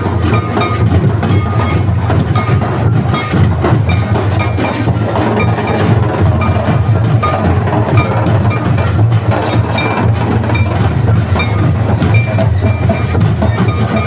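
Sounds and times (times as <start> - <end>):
barrel drums beating: 0.0 - 14.0
high ringing notes: 0.0 - 14.0
kettle drum beating: 0.0 - 14.0.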